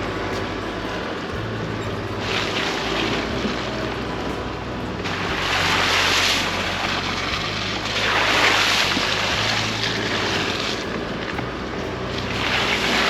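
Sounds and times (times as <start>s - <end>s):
low engine hum: 0.0s - 13.0s
tyre and wind rushing: 0.0s - 13.0s.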